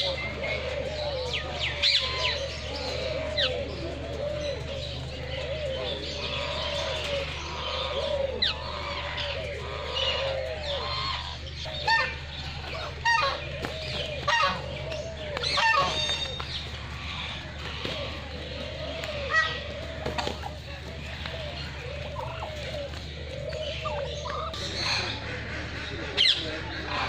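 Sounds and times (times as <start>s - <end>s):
harsh bird calls: 0.0s - 27.0s
pigeons and doves cooing: 0.0s - 27.0s
small birds chirping: 0.0s - 27.0s
steady low hum: 0.0s - 27.0s.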